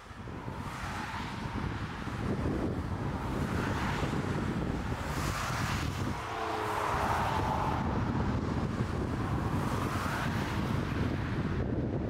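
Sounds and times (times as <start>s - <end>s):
wind buffeting microphone: 0.0s - 12.0s
jet airliner engines: 0.2s - 12.0s.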